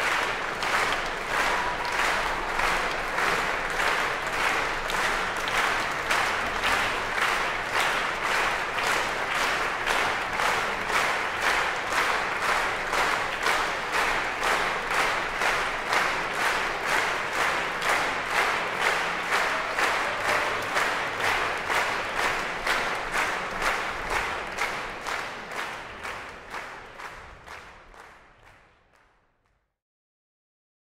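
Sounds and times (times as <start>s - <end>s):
audience clapping in unison: 0.0s - 29.7s.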